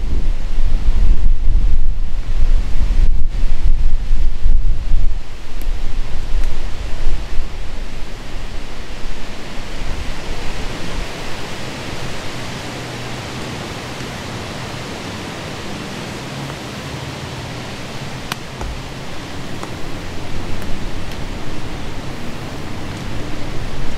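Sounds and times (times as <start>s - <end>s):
strong wind buffeting microphone: 0.0s - 23.9s.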